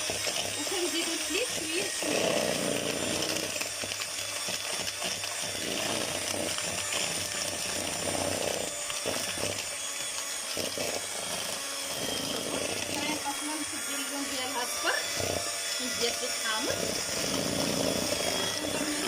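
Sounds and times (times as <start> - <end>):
electric hand mixer running: 0.0 - 19.0.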